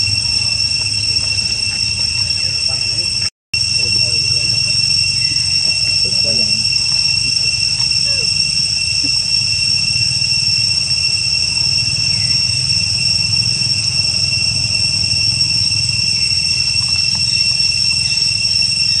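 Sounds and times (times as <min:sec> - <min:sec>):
high-pitched whine: 0:00.0 - 0:19.0.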